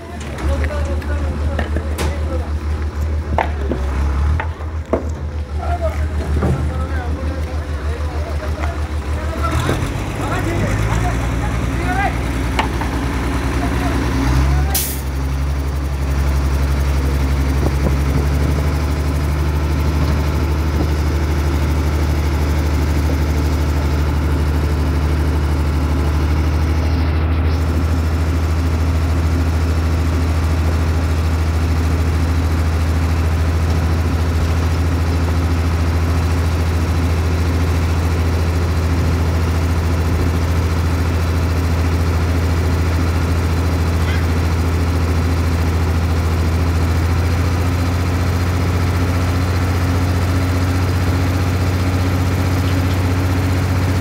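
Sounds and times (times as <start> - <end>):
heavy crane engine droning: 0.0 - 54.0.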